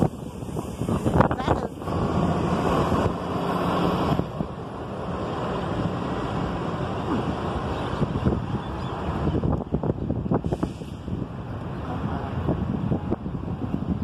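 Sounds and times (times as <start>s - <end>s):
wind on microphone: 0.0s - 4.6s, 5.6s - 14.0s.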